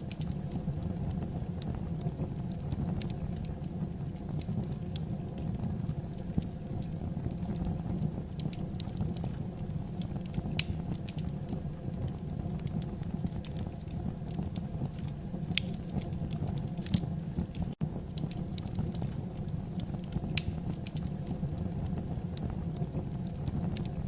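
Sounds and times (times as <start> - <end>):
fire crackling and popping: 0.0 - 24.0
wood fire rumbling: 0.0 - 24.0.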